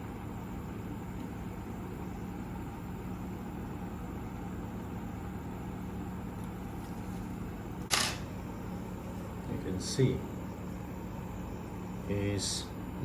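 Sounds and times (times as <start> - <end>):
dehumidifier humming: 0.0 - 13.0.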